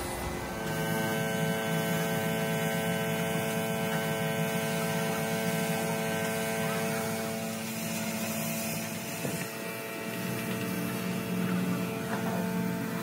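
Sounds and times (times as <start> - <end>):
spray gun hissing: 0.0 - 11.4
compressor humming: 0.0 - 13.0.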